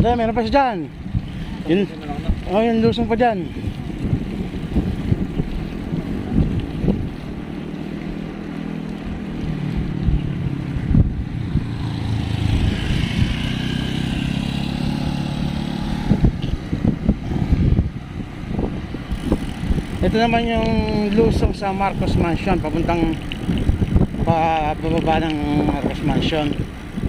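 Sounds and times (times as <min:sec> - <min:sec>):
traffic engine hum: 0:00.0 - 0:27.0
wind buffeting microphone: 0:00.0 - 0:27.0.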